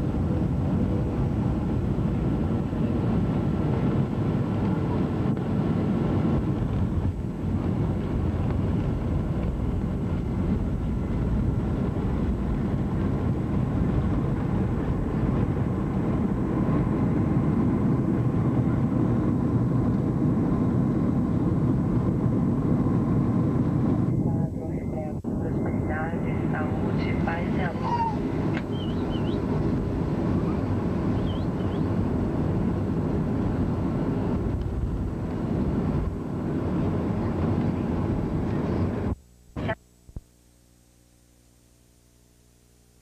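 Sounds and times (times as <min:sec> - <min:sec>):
jet engine rumble in cabin: 0:00.0 - 0:39.8.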